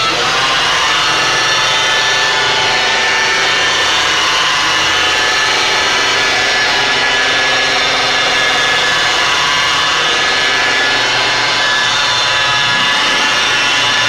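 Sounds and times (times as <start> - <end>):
electric polisher whine: 0.0 - 14.0.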